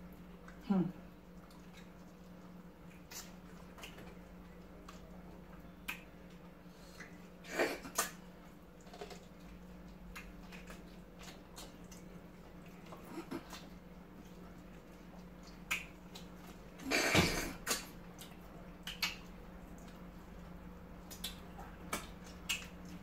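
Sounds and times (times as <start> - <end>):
wet chewing and lip smacks: 0.0 - 16.8, 17.6 - 23.0
faint steady hum: 0.0 - 23.0.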